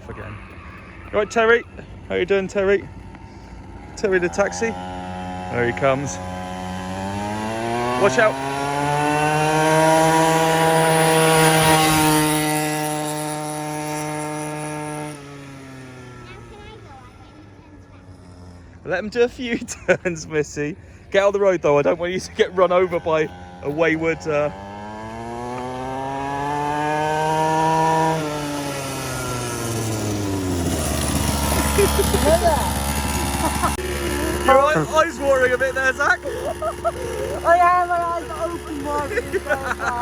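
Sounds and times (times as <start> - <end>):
quad bike engine passing: 0.0 - 40.0.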